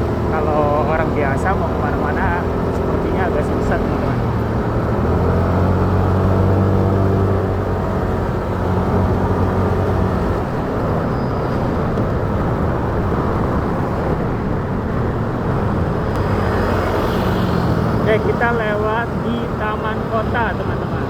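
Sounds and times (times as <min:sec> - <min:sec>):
motorcycle engine hum: 0:00.0 - 0:21.0
wind and road noise: 0:00.0 - 0:21.0.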